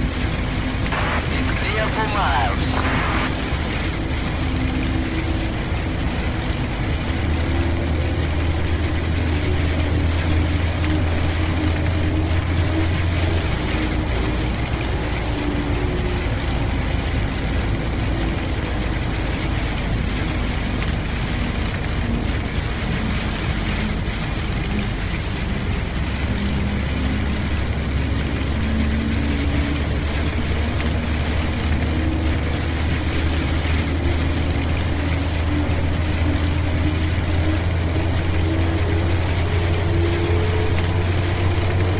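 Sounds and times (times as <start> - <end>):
car engine and road drone: 0.0 - 41.9
rain and wet tyres hiss: 0.0 - 41.9.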